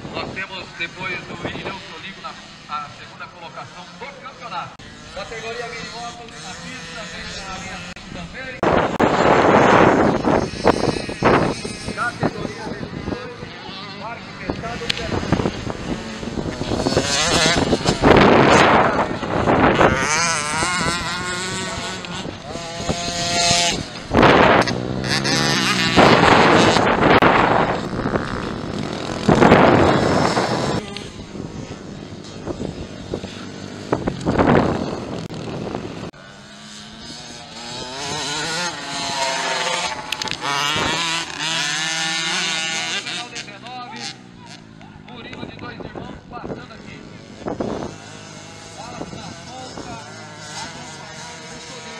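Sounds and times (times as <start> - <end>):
dirt bike engines revving: 0.0 - 51.9.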